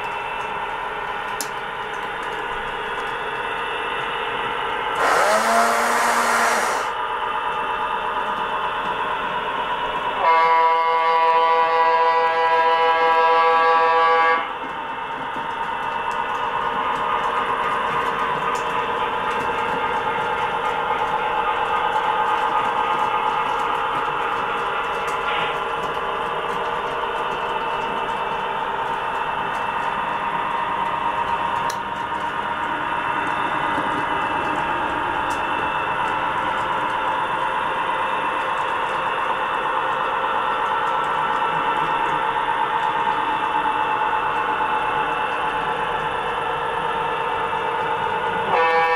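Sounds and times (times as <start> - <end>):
model train running on track: 0.0 - 48.9.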